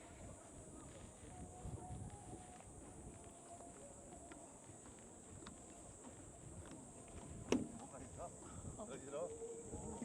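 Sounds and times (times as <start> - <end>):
steady high-pitched hiss: 0.0 - 10.0.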